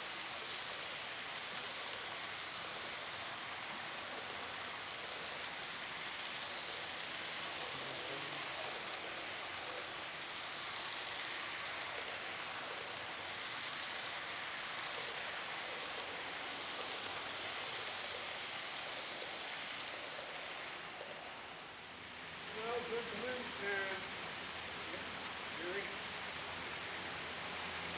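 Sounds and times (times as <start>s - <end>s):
model train wheels rolling on rails: 0.0s - 27.9s.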